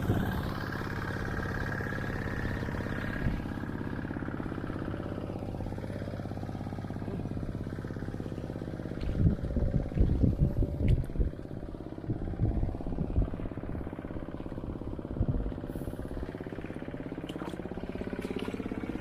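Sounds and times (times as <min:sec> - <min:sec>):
hand tractor engine running: 0:00.0 - 0:19.0.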